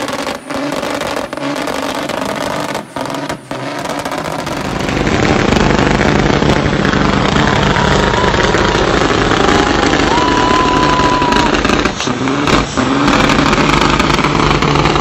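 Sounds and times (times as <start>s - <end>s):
diesel truck engine revving: 0.0s - 15.0s
rough diesel rumble: 0.0s - 15.0s.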